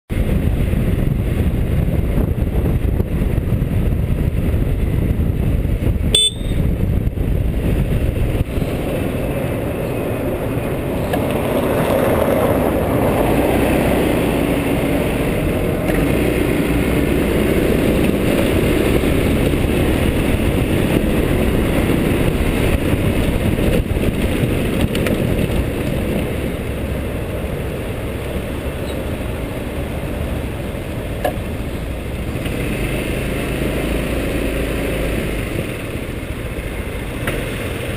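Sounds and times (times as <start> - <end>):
city traffic: 0.1 - 37.9
wind noise on microphone: 0.1 - 37.9
scooter engine running: 0.2 - 37.9.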